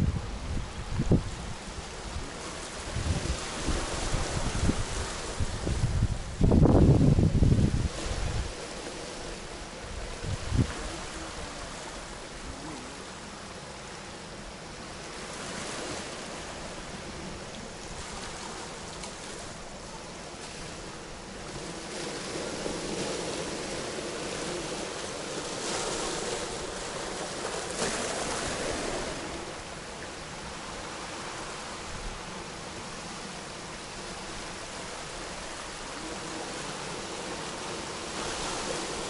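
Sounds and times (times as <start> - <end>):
waves washing onto pebble beach: 0.7 - 39.0.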